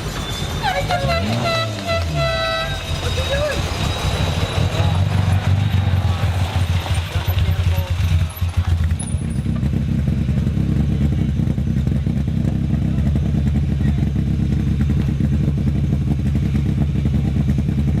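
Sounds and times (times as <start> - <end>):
rally car engine running: 0.0 - 18.0.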